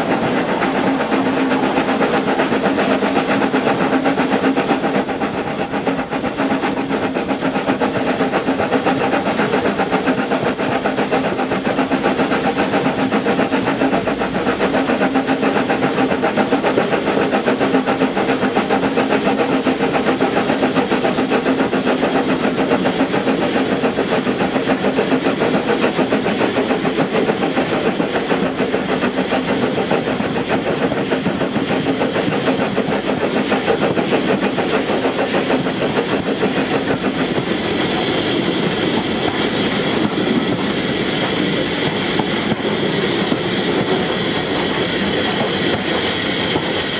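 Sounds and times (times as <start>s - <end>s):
steam locomotive exhaust beats: 0.0s - 46.9s
train running noise: 0.0s - 46.9s.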